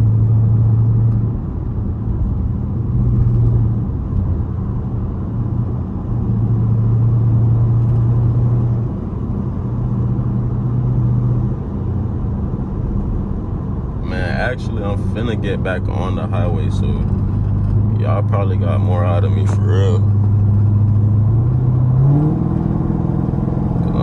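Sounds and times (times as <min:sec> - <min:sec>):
car exhaust droning: 0:00.0 - 0:24.0.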